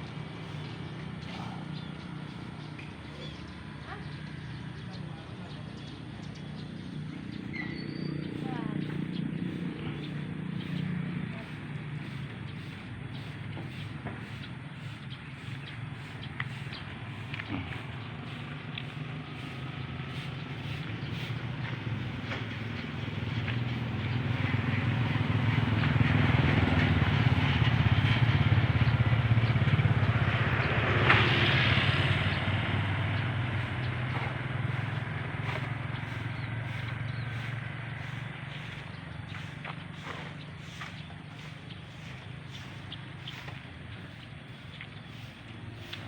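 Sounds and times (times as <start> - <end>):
vehicle engine passing by: 0.0 - 46.0.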